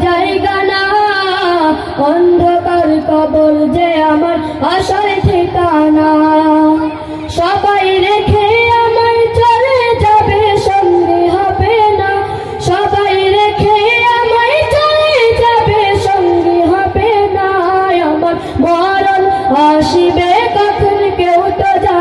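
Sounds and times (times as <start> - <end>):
boy singing into microphone: 0.0 - 22.0.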